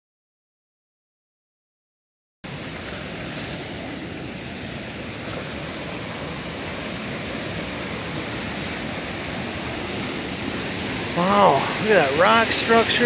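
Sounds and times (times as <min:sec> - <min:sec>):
waterfall rushing: 0:02.5 - 0:13.0.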